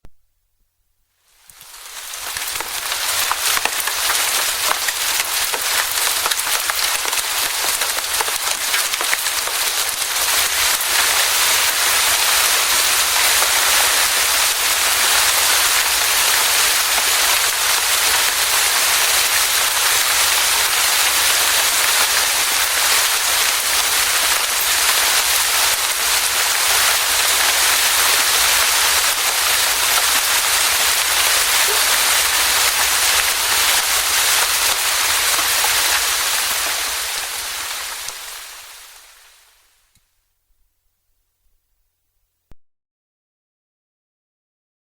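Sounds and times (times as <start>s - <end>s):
rain pattering on leaves: 1.2s - 39.9s.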